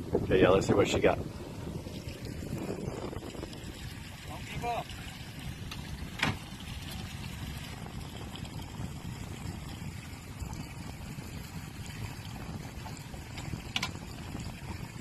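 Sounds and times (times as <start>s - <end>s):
boat engine low rumble: 0.0s - 15.0s
water washing along hull: 0.0s - 15.0s.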